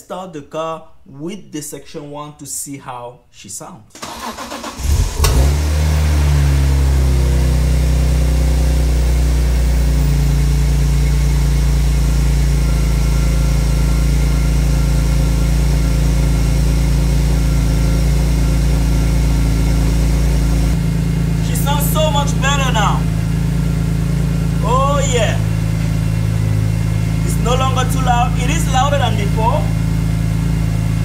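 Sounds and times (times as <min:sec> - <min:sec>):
car engine starting and idling: 0:03.9 - 0:31.0.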